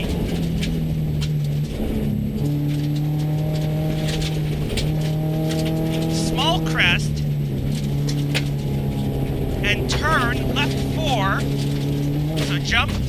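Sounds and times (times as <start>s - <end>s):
car engine droning: 0.0s - 13.0s
road and tyre noise: 0.0s - 13.0s.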